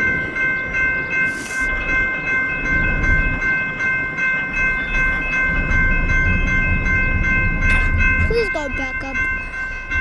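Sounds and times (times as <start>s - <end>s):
crossing warning bell ringing: 0.0s - 10.0s.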